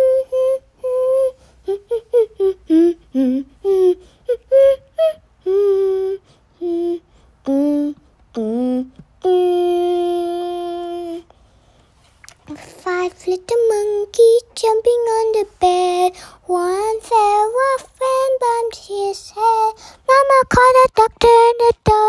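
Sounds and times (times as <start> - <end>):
child singing: 0.0 - 11.3, 12.4 - 22.0.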